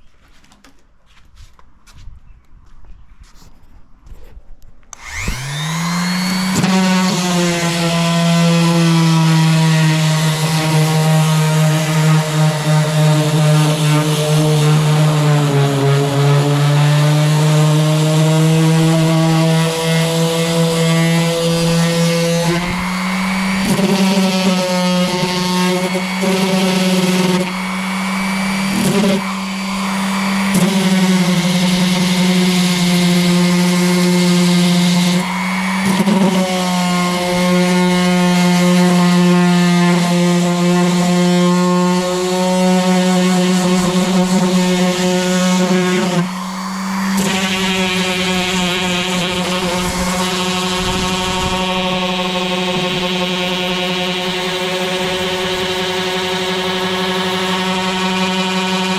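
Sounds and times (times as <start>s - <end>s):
electric sander humming: 4.9s - 58.9s.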